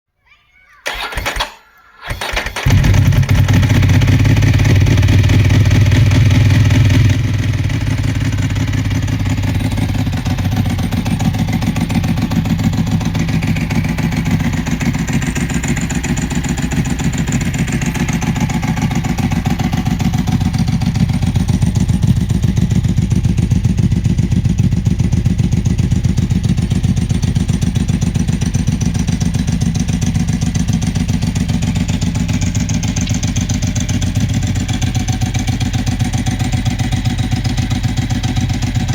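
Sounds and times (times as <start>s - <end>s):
motorcycle engine idling: 0.9s - 38.9s.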